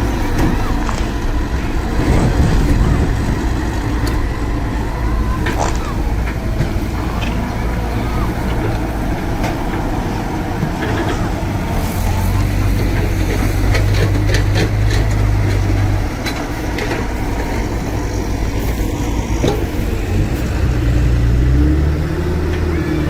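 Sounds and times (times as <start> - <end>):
heavy diesel machinery rumbling: 0.0 - 23.0.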